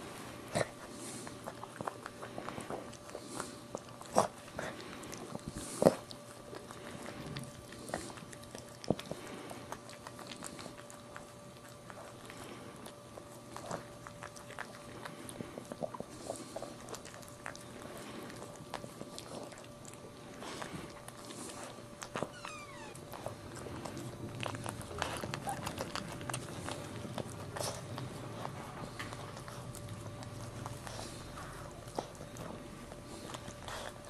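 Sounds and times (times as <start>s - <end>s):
dog licking and chewing: 0.0s - 34.0s
faint steady hum: 0.0s - 34.0s.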